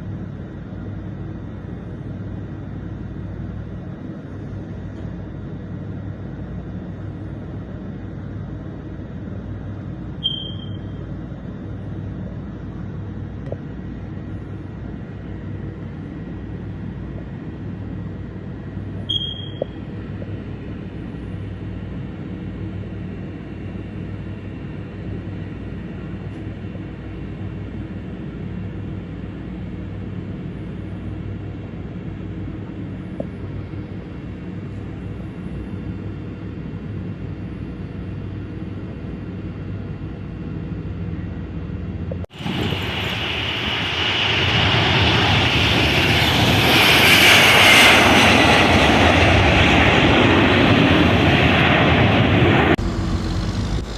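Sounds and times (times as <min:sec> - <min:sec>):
airliner engines droning: 0:00.0 - 0:53.9
hissing engine with high whine: 0:00.0 - 0:53.9.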